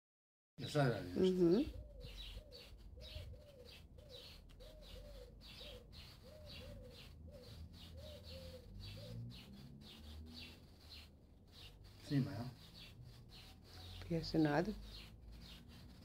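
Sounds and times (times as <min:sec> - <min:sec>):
high bird chirps: 0:00.6 - 0:16.0
birds cooing: 0:00.8 - 0:16.0.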